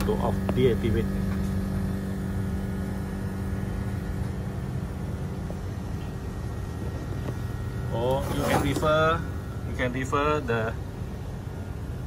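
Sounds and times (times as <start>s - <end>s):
outdoor air conditioner unit humming: 0.0s - 12.0s.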